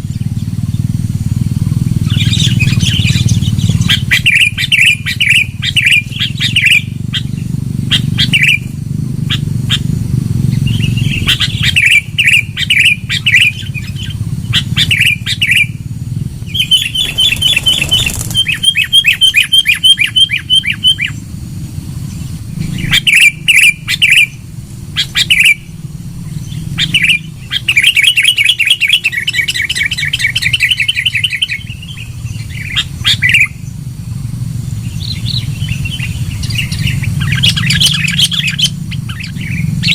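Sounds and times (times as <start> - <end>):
steady low hum: 0.0 - 39.9
bird chattering and trilling: 2.0 - 8.7, 10.5 - 21.2, 22.1 - 33.7, 34.8 - 39.9.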